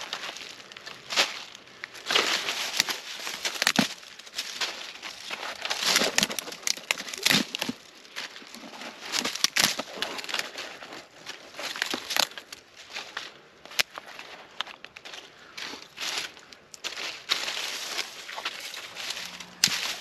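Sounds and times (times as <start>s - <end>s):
dry sticks snapping: 1.2s - 10.5s, 11.6s - 20.0s.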